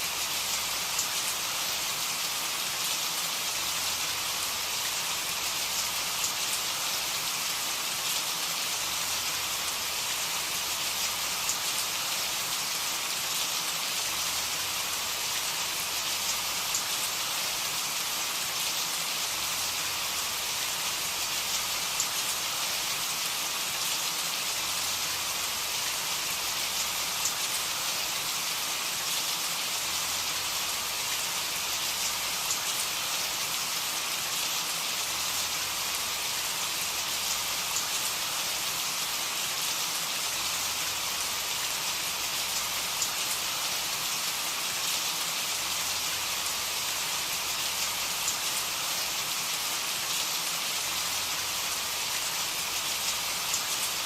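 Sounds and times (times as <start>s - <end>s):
rain falling on a surface: 0.0s - 54.0s.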